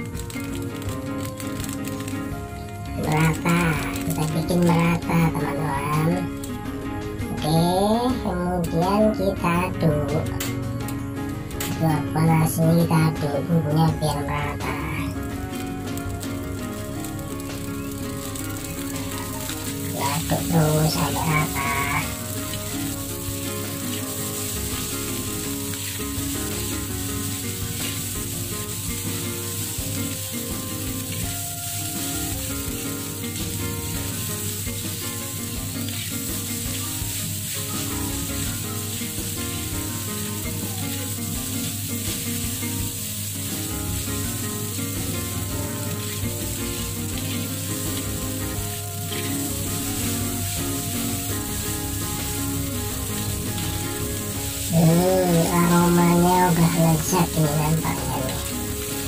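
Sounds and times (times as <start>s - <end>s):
rice sizzling in a wok: 0.0s - 8.3s, 9.0s - 59.0s.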